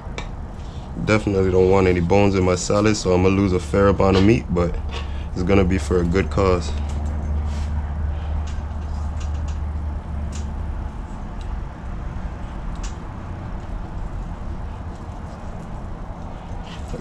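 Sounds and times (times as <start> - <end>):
vehicle motor rumble: 0.0 - 17.0.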